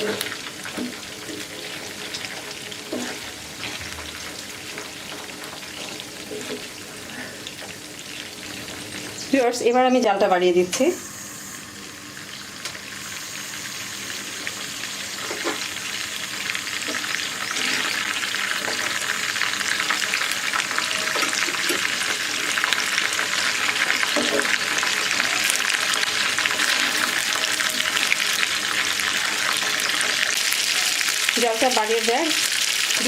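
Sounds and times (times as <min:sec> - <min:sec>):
chicken deep-frying in oil: 0:00.0 - 0:33.0.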